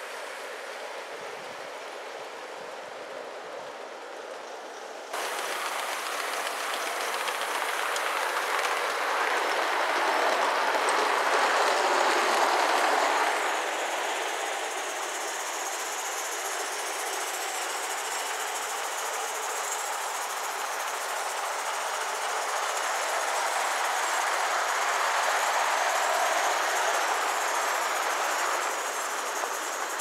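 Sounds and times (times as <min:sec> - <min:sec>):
model train rolling on rails: 0:00.0 - 0:30.0.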